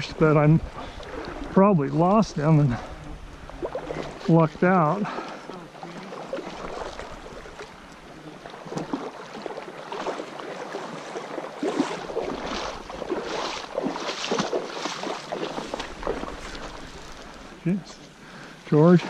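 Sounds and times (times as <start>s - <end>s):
wading steps sloshing in water: 0.0s - 19.0s.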